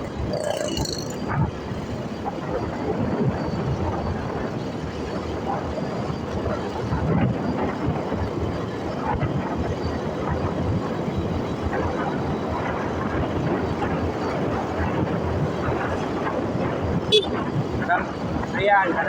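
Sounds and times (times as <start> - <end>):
motorcycle engine running: 0.0 - 17.8
road noise: 0.0 - 19.0
wind rush: 0.0 - 19.0.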